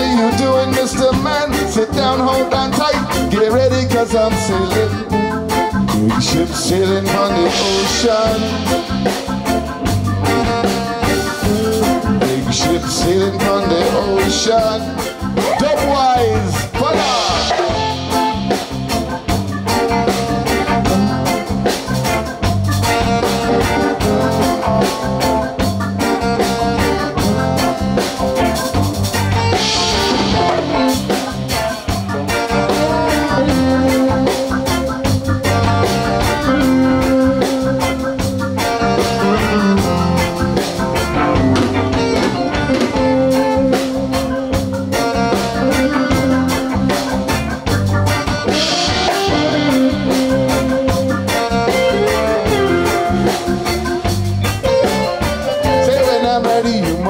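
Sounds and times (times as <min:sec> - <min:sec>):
drum kit steady beat: 0:00.0 - 0:57.0
electric guitar: 0:00.0 - 0:57.0
repeating low bass notes: 0:00.0 - 0:57.0.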